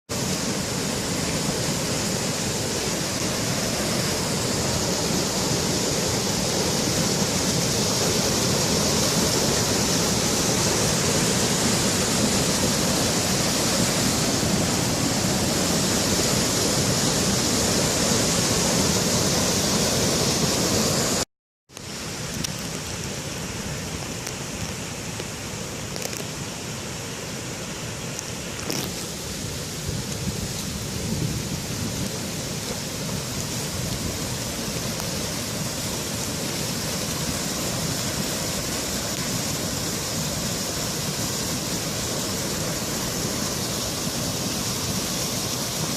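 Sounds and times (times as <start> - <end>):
water pouring over dam: 0.1 - 21.2, 28.0 - 45.9.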